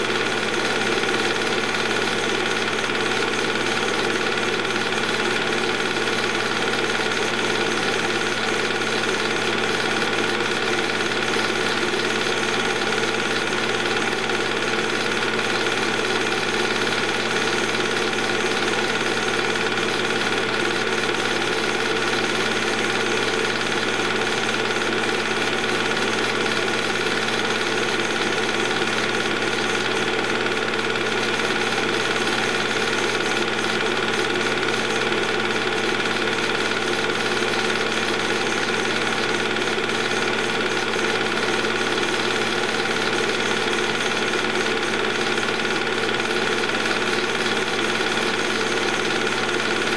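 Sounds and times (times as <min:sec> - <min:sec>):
movie projector running: 0:00.0 - 0:49.9.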